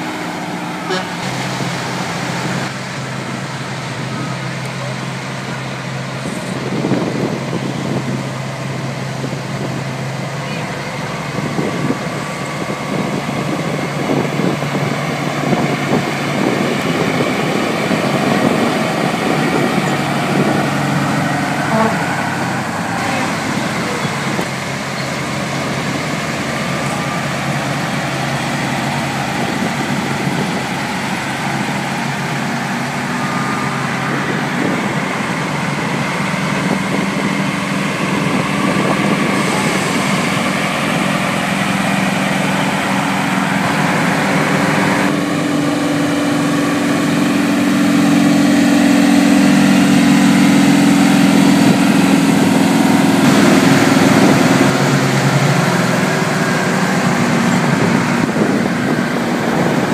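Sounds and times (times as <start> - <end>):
truck diesel engines driving past: 0.0 - 59.9.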